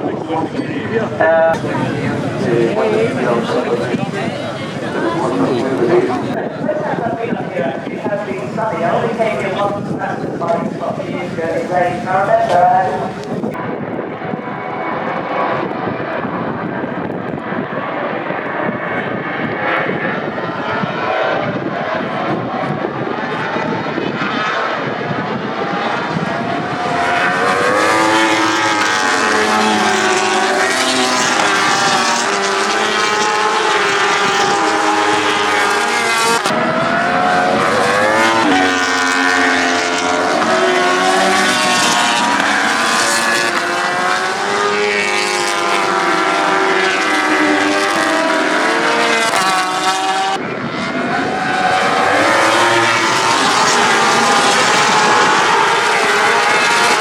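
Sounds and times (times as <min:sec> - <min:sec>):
racing motorcycles revving: 0:00.0 - 0:57.0.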